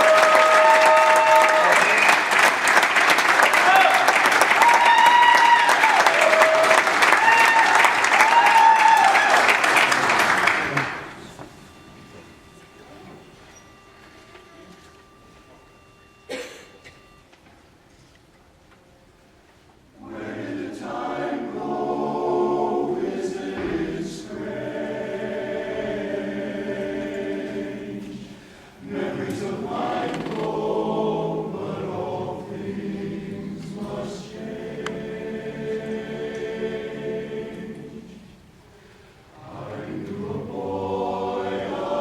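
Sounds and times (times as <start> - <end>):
choir singing in harmony: 0.0 - 14.8, 19.9 - 42.0.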